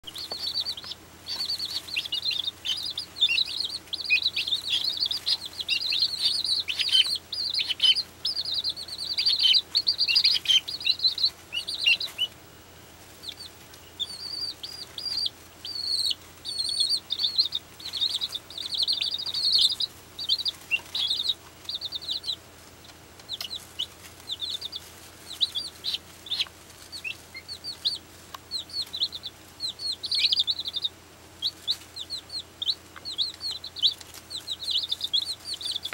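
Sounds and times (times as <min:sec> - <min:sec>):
baby chicks peeping: 0:00.0 - 0:35.9.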